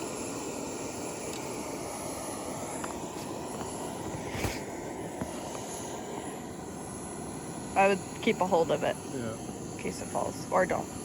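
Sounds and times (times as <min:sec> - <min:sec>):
camp stove burning: 0:00.0 - 0:11.0.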